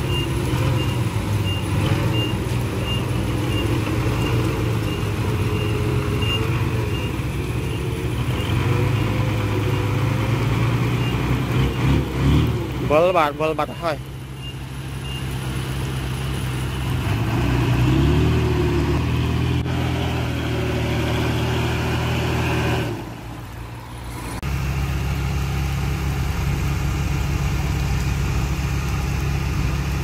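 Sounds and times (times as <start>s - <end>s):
heavy diesel engine revving: 0.0s - 30.0s.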